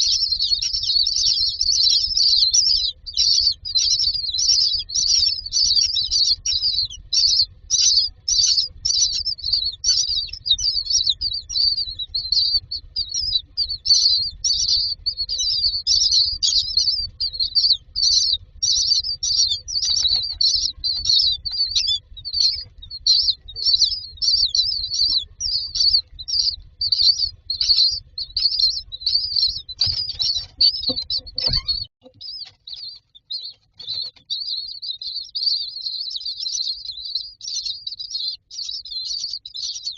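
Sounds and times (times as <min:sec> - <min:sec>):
faint low rumble: 0:00.0 - 0:33.5
nestlings begging chirps: 0:00.0 - 0:39.9.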